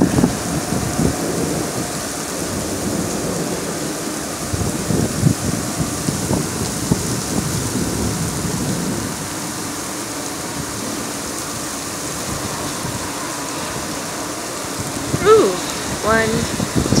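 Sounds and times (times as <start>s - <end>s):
heavy rain falling: 0.0s - 17.0s
low thunder rumble: 0.0s - 17.0s.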